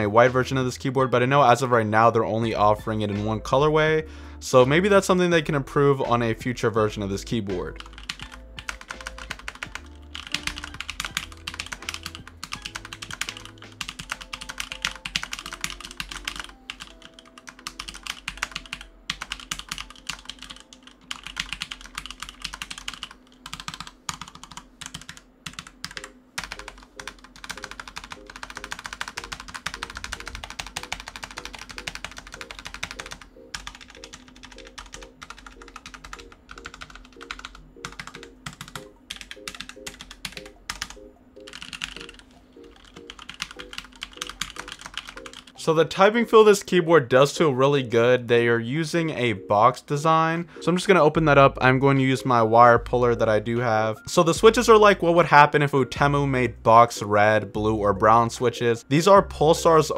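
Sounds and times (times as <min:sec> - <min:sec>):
background music: 0:00.0 - 0:23.0, 0:25.9 - 0:59.9.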